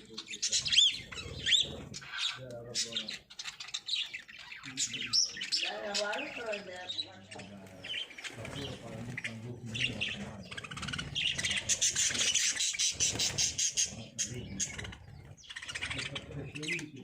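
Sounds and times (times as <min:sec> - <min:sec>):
lovebirds chirping: 0:00.0 - 0:17.0.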